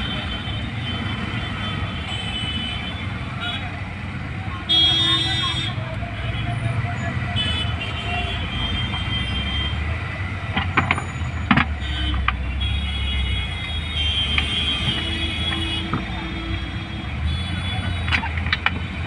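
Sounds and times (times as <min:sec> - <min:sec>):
passing vehicles rumble: 0:00.0 - 0:19.0.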